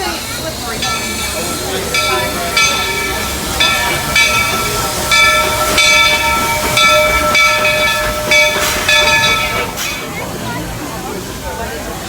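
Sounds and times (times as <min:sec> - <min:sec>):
locomotive bell ringing: 0:00.0 - 0:11.0
steam hissing: 0:00.0 - 0:12.0.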